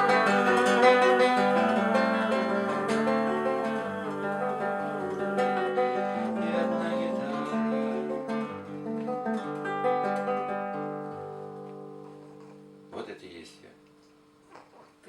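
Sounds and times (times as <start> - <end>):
acoustic guitar playing: 0.0 - 13.1.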